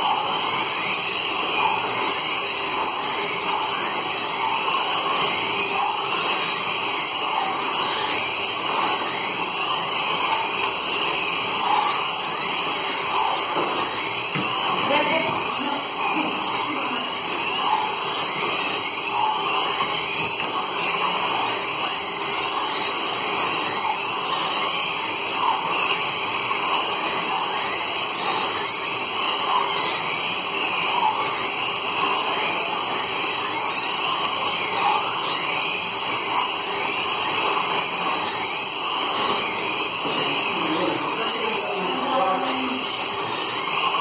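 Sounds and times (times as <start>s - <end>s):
slot car motors whining: 0.0s - 44.0s.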